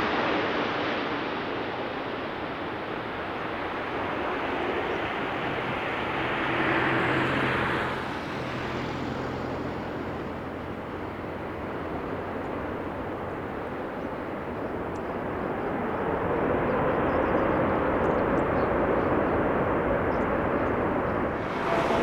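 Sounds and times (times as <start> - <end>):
jet engine rumble: 0.0 - 22.0
jet engine whine: 0.0 - 22.0.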